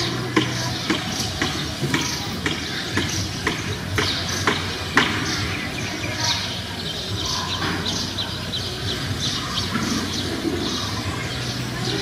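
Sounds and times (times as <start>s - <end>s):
low rumble of outdoor noise: 0.0s - 12.0s
small birds chirping: 0.0s - 12.0s.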